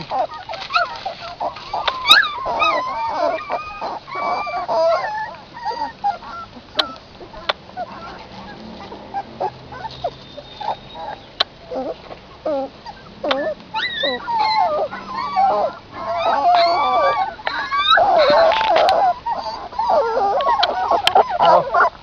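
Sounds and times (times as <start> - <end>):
puppies squealing and whining: 0.0 - 22.0.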